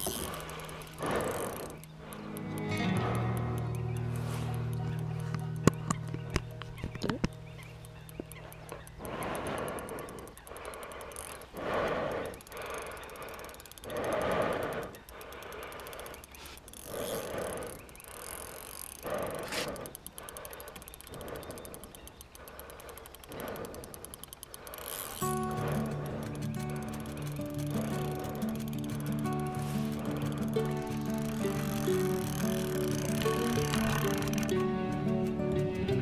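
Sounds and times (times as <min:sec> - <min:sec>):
fishing reel gear rattle: 0:00.0 - 0:35.6.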